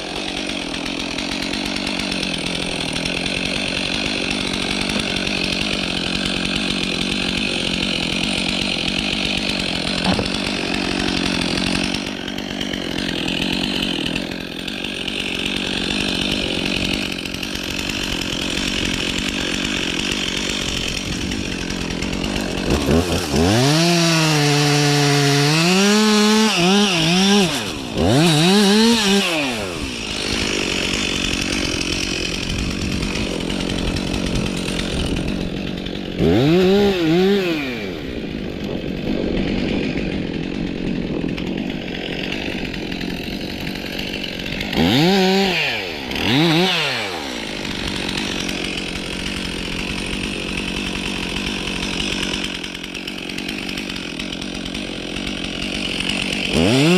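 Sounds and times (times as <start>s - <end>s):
chainsaw revving: 0.0s - 56.9s.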